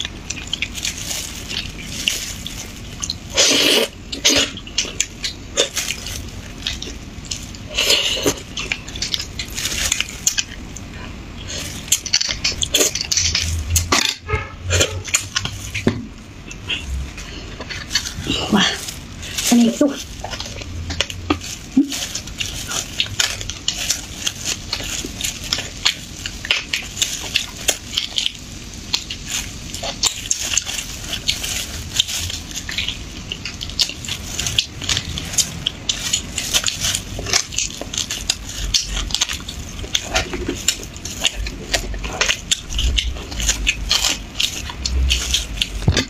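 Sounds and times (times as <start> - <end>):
person sucking and chewing: 0.0 - 46.0.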